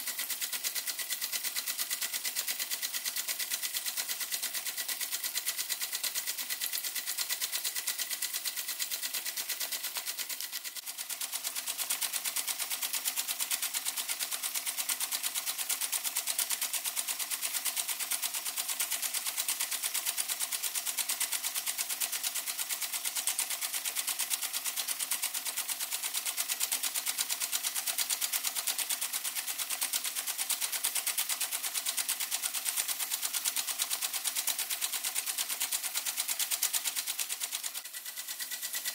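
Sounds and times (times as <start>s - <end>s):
toy steam engine exhaust beating: 0.0s - 38.9s.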